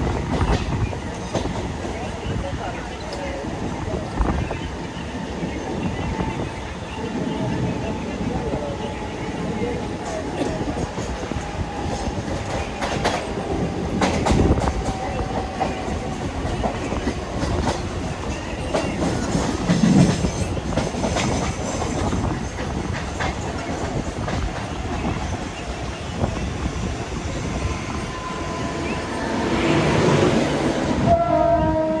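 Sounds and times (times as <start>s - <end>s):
train wheels clattering over joints: 0.0s - 31.1s.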